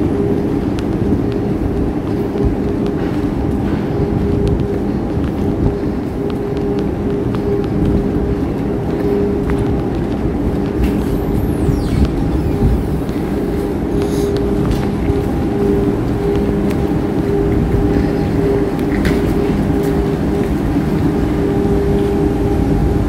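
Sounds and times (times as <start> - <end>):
electric train humming: 0.0 - 23.0.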